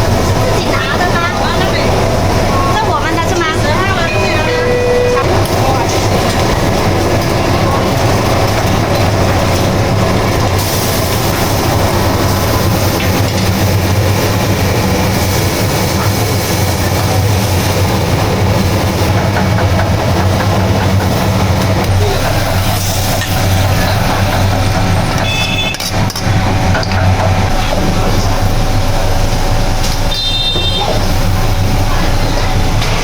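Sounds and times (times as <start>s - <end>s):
loud rumbling with low hum: 0.0s - 33.0s.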